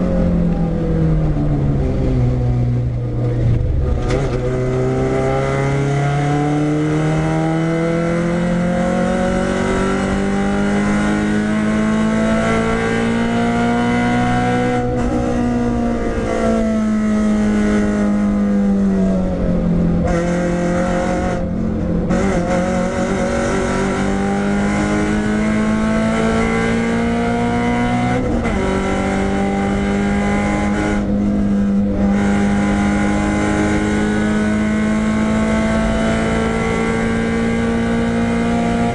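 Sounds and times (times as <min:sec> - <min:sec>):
car engine driven hard: 0:00.0 - 0:38.9.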